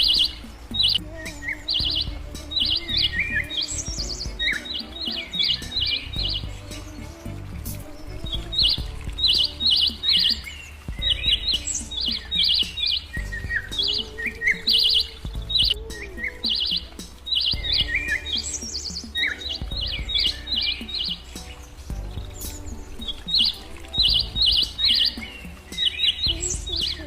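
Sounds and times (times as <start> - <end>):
birds chirping: 0.0 - 27.0
soft background music: 0.0 - 27.0.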